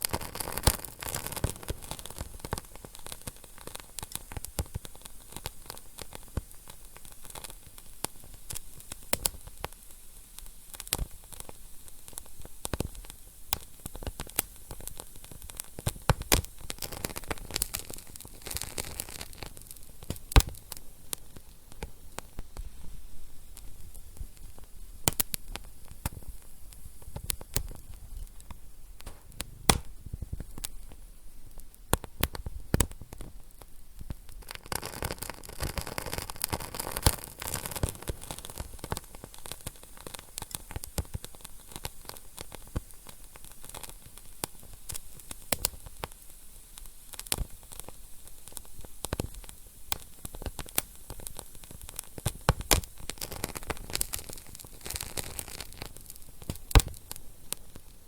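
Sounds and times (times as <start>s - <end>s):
steady hiss of fire: 0.0s - 58.0s
wood fire crackling: 0.0s - 58.0s.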